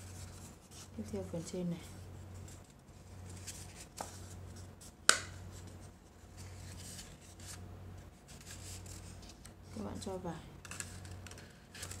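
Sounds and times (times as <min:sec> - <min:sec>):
paper rustling and scraping: 0:00.0 - 0:01.4, 0:02.0 - 0:12.0
low steady hum: 0:00.0 - 0:12.0.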